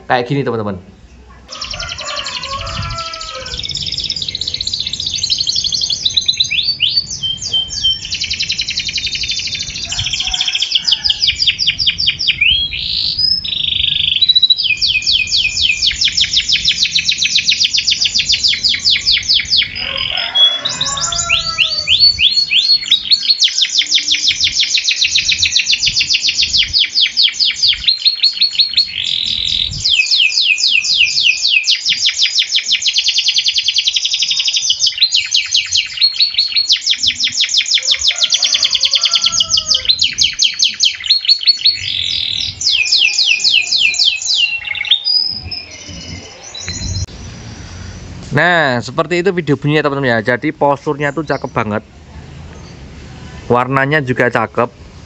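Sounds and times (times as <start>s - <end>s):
canary singing trills: 0.0s - 53.6s.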